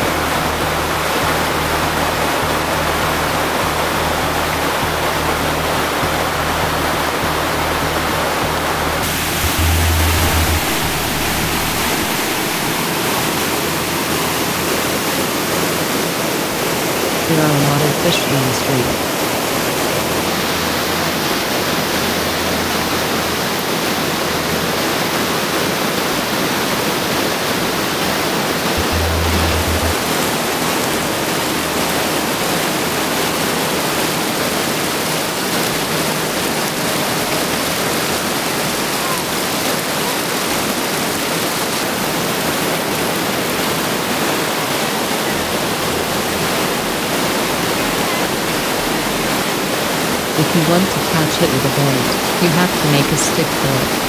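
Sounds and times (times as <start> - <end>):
stream rushing over cascade: 0.0 - 54.0.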